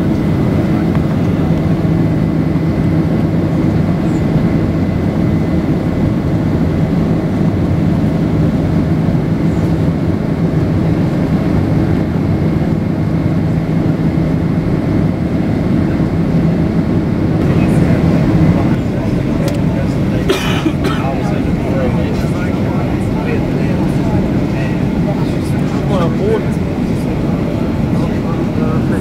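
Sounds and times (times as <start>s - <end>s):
airliner engine and airflow rumble: 0.0s - 29.0s.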